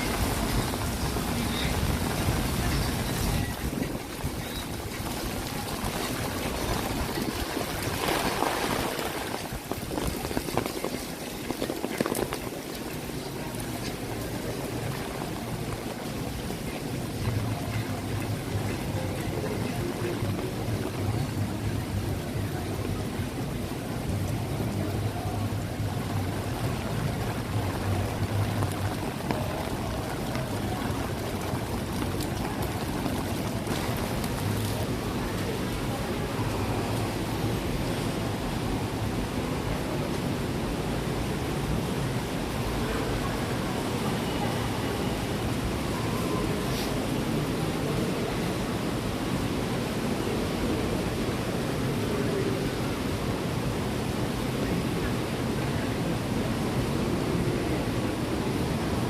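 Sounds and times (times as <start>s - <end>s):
running water trickling: 0.0s - 59.0s
steady rain: 0.0s - 59.0s
traffic noise: 0.0s - 59.0s
water rush: 0.0s - 59.0s.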